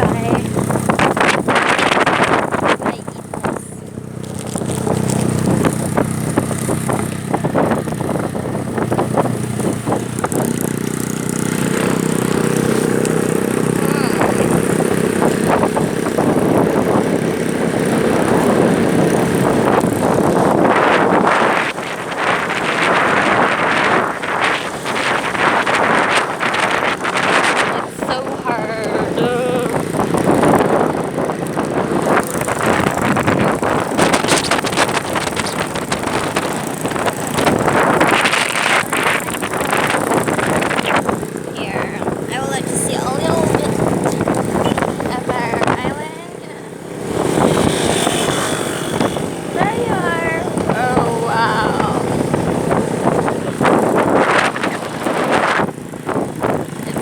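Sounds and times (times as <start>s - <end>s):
road and engine noise: 0.0s - 57.0s
wind buffeting microphone: 0.0s - 57.0s.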